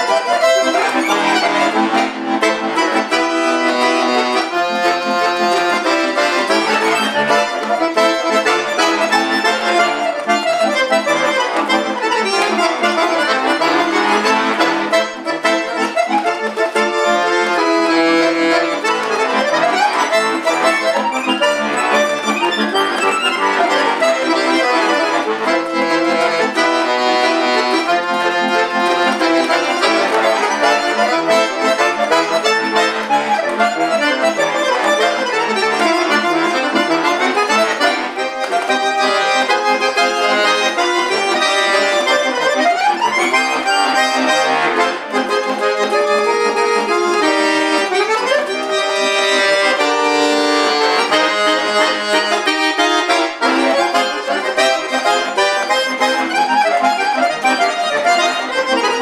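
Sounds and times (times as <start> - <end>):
button accordion playing: 0.0 - 59.0.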